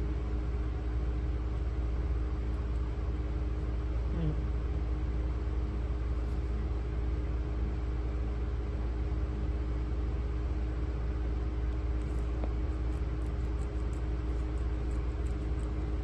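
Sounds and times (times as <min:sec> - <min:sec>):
low mechanical hum with tones: 0:00.0 - 0:16.0.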